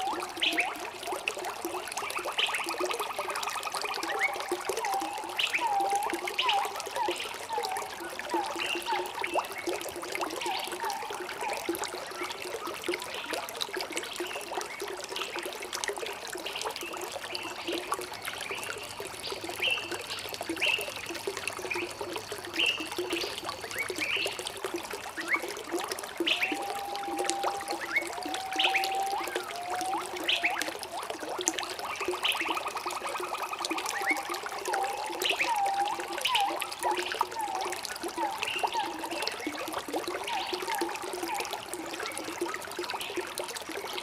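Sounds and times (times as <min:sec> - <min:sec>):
water trickling and bubbling: 0:00.0 - 0:44.0.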